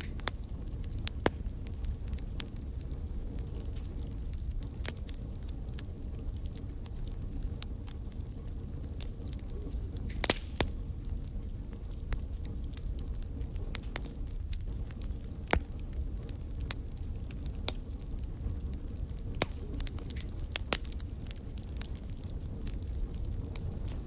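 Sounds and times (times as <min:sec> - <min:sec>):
low rumble of flames: 0:00.0 - 0:24.0
wood crackling and popping: 0:00.0 - 0:24.0.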